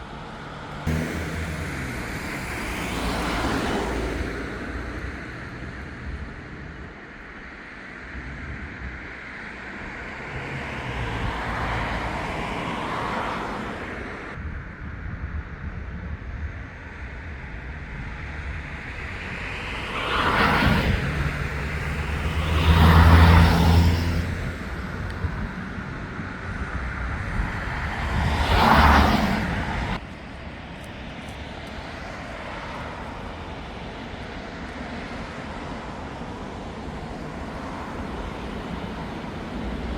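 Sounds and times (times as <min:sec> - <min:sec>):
city background noise: 0:00.0 - 0:39.9
vehicles passing by: 0:00.0 - 0:39.9.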